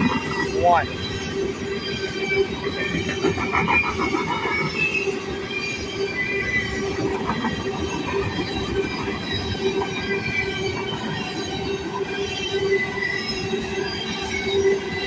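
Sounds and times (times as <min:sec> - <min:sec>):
high-pitched wheel squeals: 0:00.0 - 0:15.0
train cars rolling past: 0:00.0 - 0:15.0.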